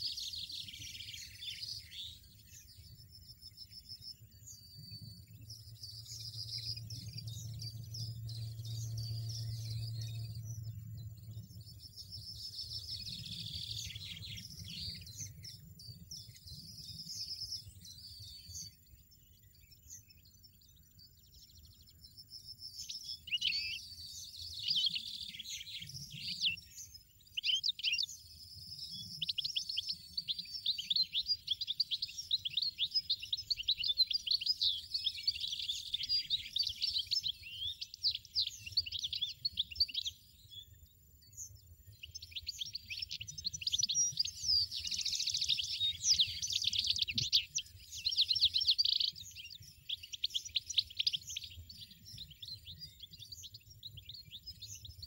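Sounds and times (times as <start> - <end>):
birds twittering: 0.0 - 55.0.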